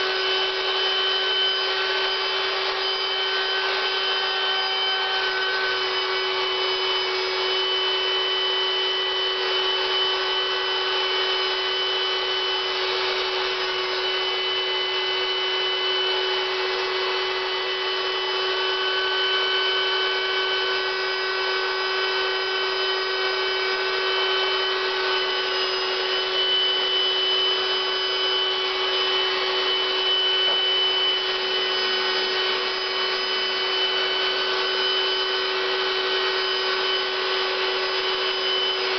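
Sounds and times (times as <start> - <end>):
electric air blower humming: 0.0 - 38.9
high whining tones: 0.0 - 38.9.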